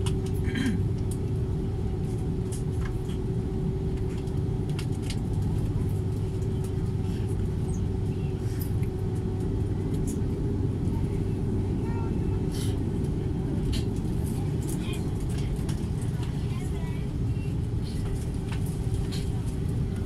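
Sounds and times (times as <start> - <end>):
jet cabin rumble: 0.0 - 20.0
steady humming tone: 0.0 - 20.0.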